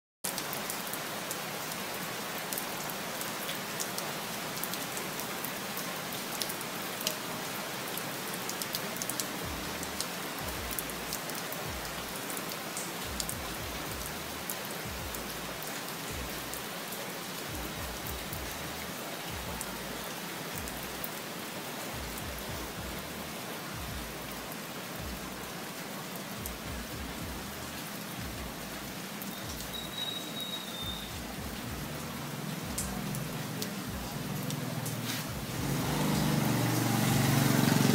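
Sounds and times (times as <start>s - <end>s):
raindrops ticking on surfaces: 0.2s - 37.9s
steady rain falling: 0.2s - 37.9s.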